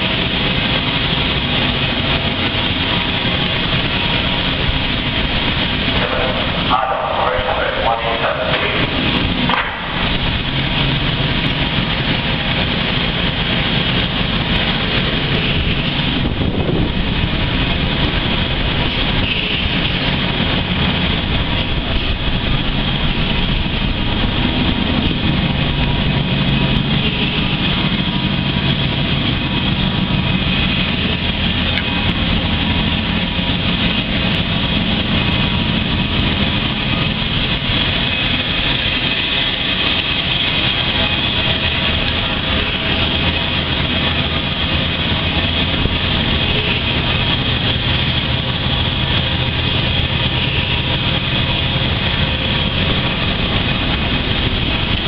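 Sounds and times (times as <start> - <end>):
loud machinery drone: 0.0 - 55.0.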